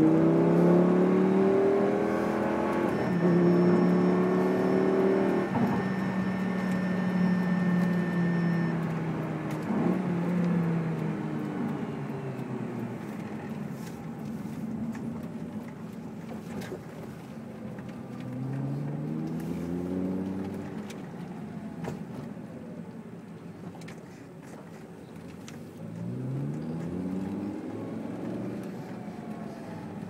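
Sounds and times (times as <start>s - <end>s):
car engine accelerating from inside cabin: 0.0s - 30.0s.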